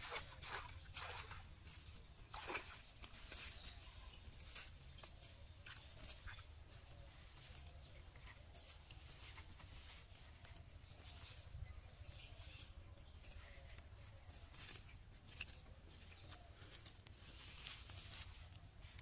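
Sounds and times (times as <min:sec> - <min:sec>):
soft rustles and clicks: 0:02.8 - 0:19.0.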